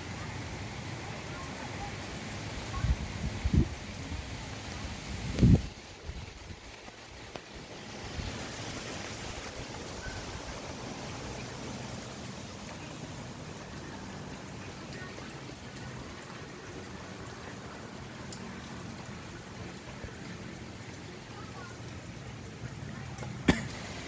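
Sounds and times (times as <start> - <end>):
wind and rain in trees: 0.0 - 24.0.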